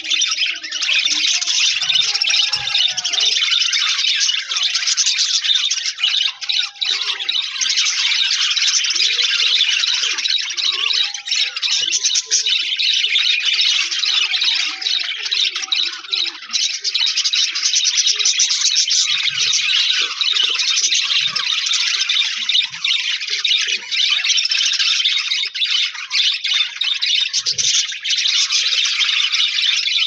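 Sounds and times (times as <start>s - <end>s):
budgerigars chirping and warbling: 0.0s - 30.0s.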